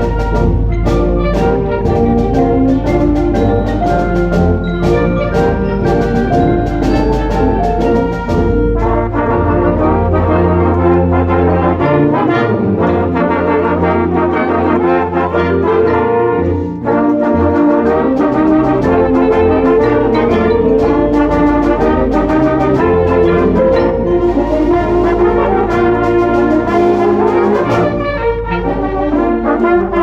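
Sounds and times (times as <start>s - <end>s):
brass band playing loud music: 0.0s - 30.0s.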